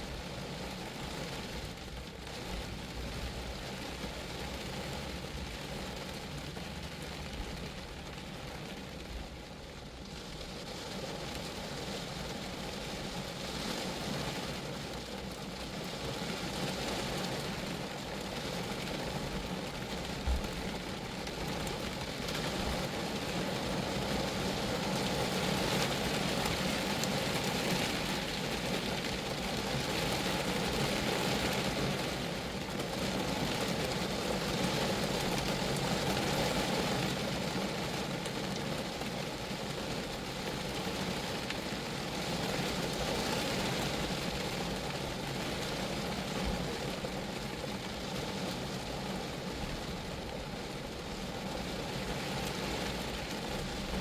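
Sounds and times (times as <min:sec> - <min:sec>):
rain pattering on a car: 0:00.0 - 0:54.0.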